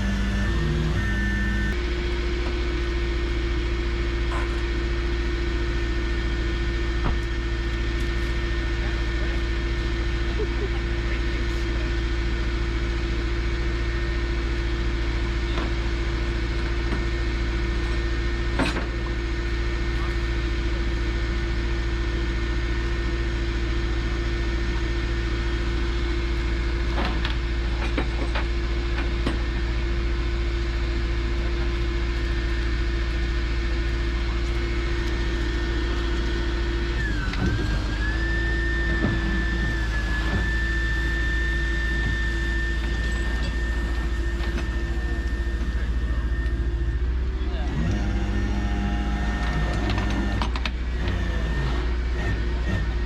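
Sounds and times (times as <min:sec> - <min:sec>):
steady whine: 0:00.0 - 0:53.0
truck engine rumble: 0:00.0 - 0:53.0.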